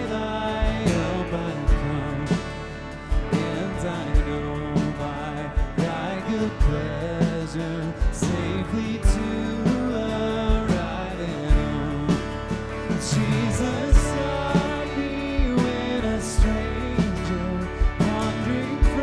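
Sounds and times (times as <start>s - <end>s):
bass drum beat: 0.0s - 19.0s
worship band playing with singing: 0.0s - 19.0s.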